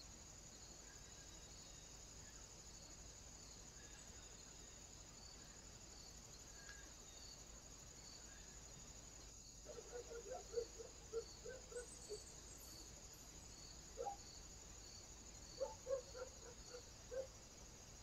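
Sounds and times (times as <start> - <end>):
faint insect-like chirping: 0.0 - 18.0.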